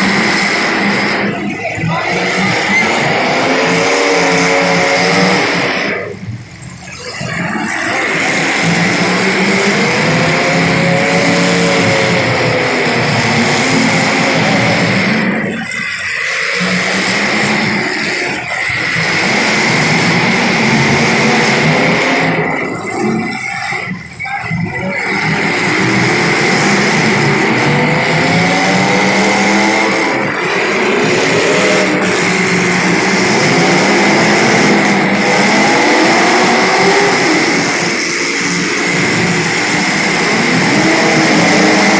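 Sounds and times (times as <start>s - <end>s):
race car passing close: 0.0s - 41.9s
small race car engines running: 0.0s - 41.9s.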